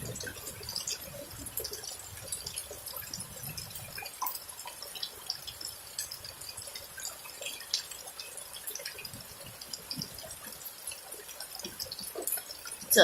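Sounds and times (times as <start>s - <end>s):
drops dripping close by: 0.0s - 13.0s
steady rain: 0.0s - 13.0s.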